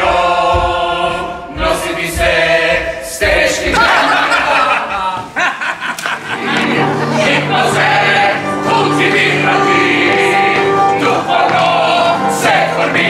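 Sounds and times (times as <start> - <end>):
choir singing: 0.0 - 5.2, 6.2 - 13.0.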